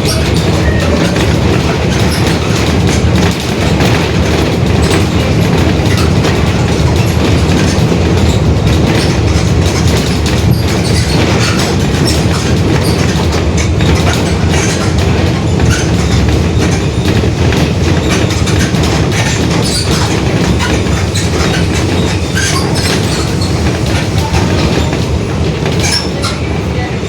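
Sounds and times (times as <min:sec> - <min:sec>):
body rattles: 0:00.0 - 0:26.5.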